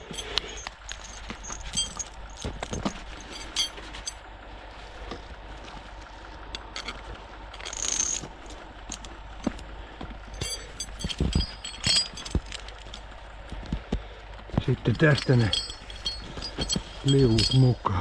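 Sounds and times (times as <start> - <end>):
chain clinking and rattling: 0.0 - 13.6, 14.6 - 18.0
low steady rumble: 0.0 - 18.0.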